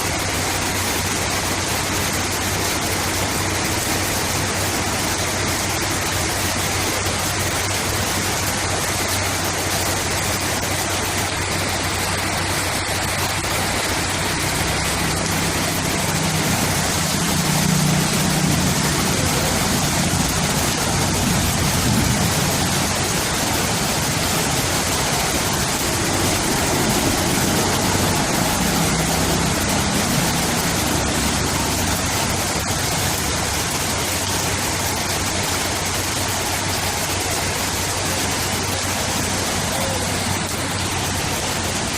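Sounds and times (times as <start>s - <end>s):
heavy rain falling: 0.0s - 41.9s
vehicle engine humming: 4.5s - 41.9s.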